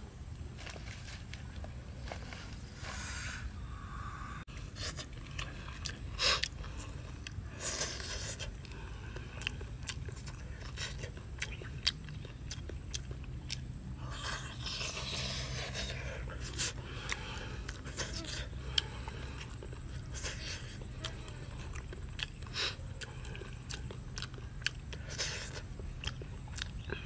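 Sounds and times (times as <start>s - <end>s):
chewing: 4.5s - 27.0s.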